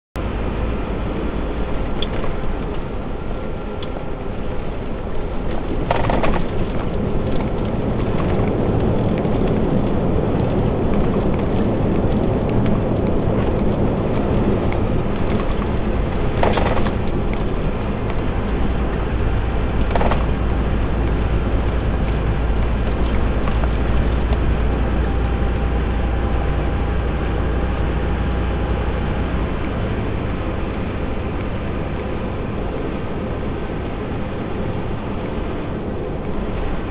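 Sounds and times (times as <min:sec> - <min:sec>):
low engine drone: 0:00.2 - 0:36.9.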